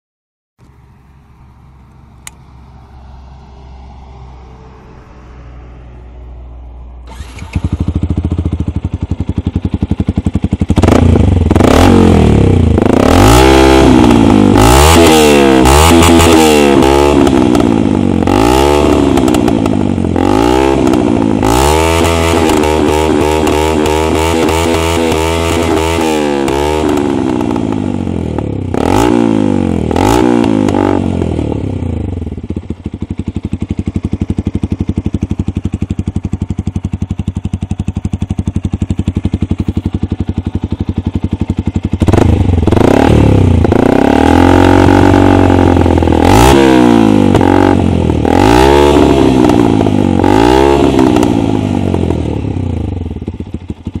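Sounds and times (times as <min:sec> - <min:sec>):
motorcycle engine revving and idling: 0:00.6 - 0:54.0.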